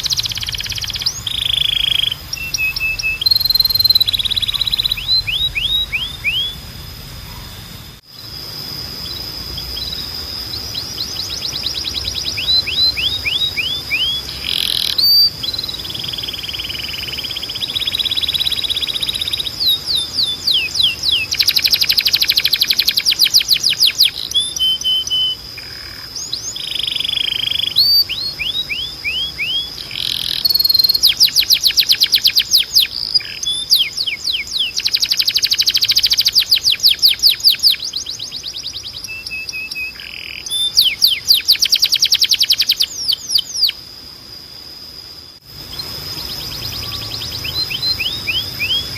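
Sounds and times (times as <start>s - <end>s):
canary singing trills: 0.0s - 43.9s, 45.5s - 48.9s.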